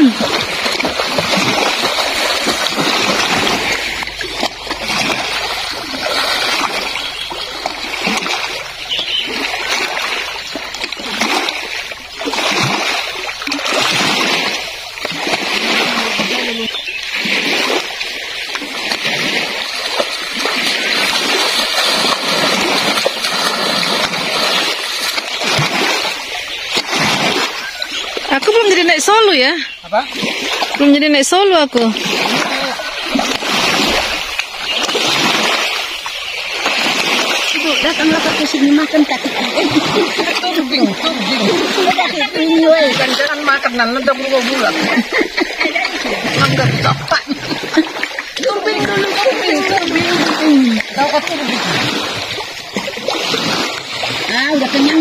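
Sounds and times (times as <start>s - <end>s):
water splashing around swimmer: 0.0s - 55.0s.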